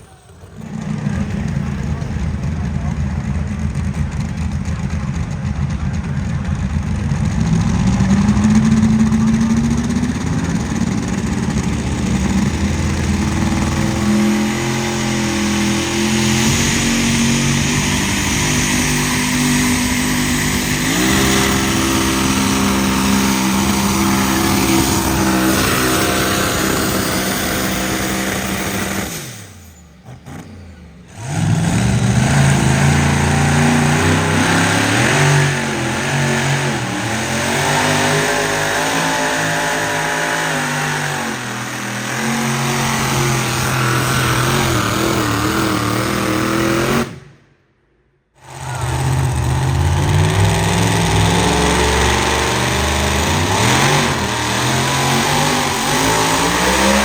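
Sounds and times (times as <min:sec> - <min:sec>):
vehicle engine revving hard: 0:00.0 - 0:47.4, 0:48.4 - 0:57.0.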